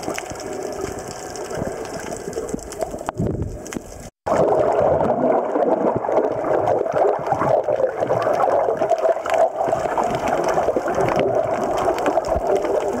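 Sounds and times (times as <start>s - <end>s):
underwater sea rushing: 0.0s - 13.0s
water bubbles clicking: 0.0s - 13.0s.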